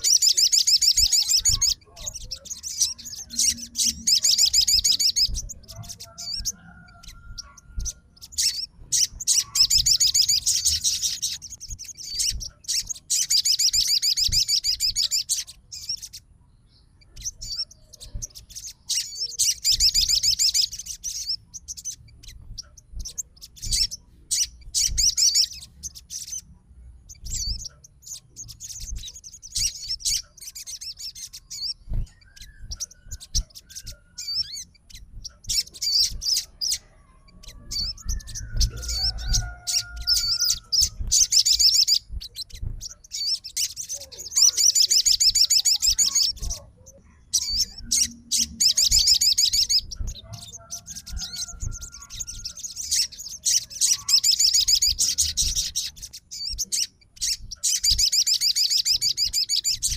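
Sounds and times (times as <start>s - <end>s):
songbird chattering trills: 0.0s - 59.9s.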